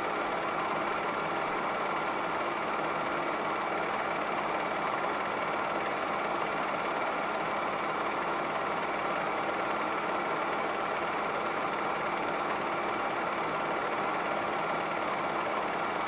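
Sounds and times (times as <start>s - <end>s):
film projector clattering: 0.0s - 16.0s.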